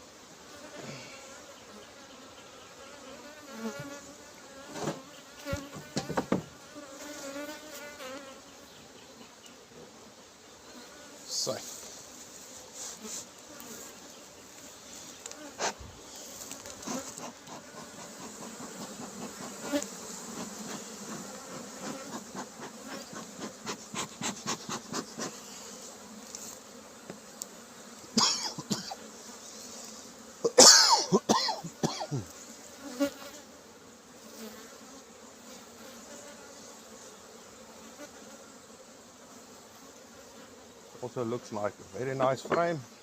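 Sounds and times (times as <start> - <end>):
honeybees buzzing: 0.0 - 43.0.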